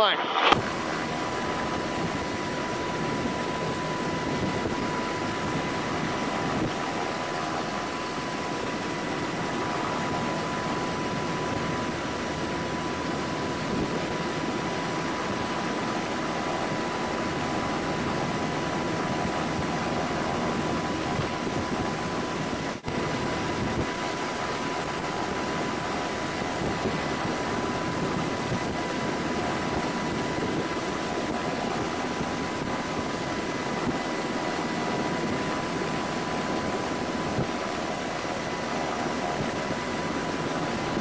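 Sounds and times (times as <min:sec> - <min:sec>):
helicopter cabin noise: 0:00.0 - 0:41.0.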